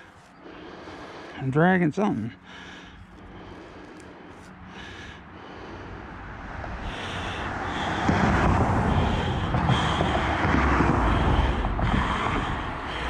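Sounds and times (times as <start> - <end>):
heavy low rumble: 0.0 - 13.0.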